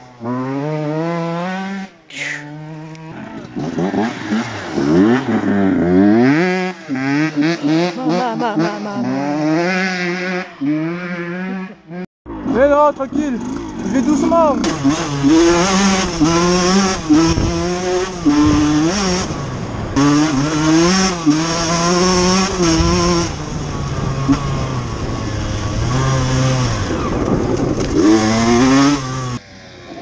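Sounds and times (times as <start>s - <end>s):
two-stroke motorcycle engine revving: 0.0s - 29.4s.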